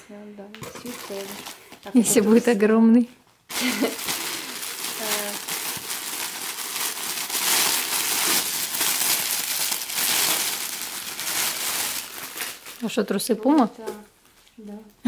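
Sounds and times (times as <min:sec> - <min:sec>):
plastic bag crinkling: 0:00.6 - 0:02.6, 0:03.5 - 0:13.9.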